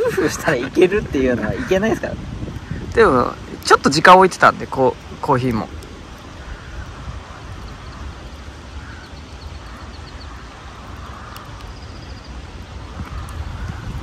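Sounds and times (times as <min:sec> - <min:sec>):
bird twittering faintly: 0:00.0 - 0:14.0
wind on microphone: 0:00.0 - 0:14.0.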